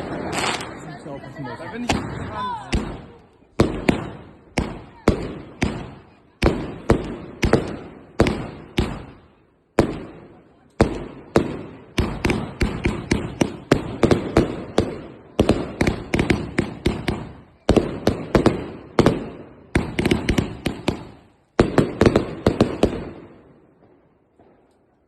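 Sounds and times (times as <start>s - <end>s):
firework battery shots: 0.0s - 1.1s, 1.8s - 23.6s.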